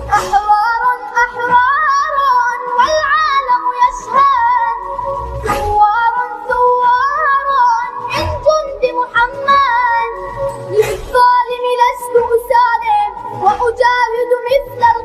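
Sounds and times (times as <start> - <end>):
high voice singing: 0.0 - 15.0.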